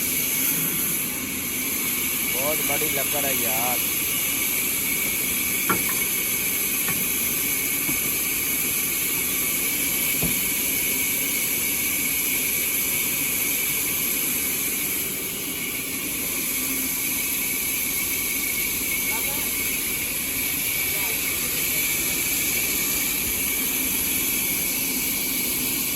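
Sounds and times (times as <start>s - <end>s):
sawmill machinery whirring: 0.0s - 25.9s.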